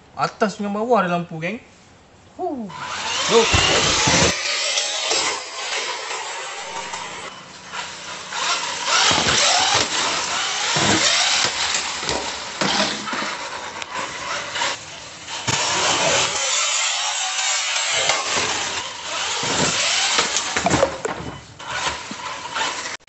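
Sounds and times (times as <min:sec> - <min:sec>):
electric motor whining: 0:02.7 - 0:23.0.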